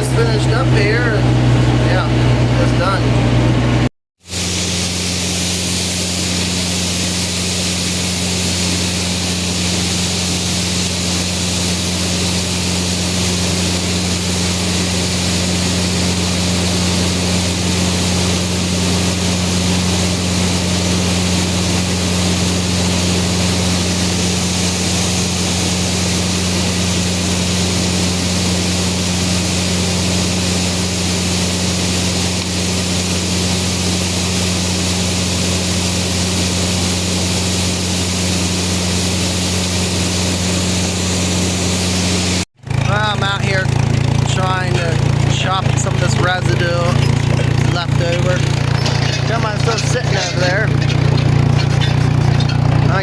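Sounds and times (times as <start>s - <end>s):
farm machinery engine droning: 0.0s - 53.0s.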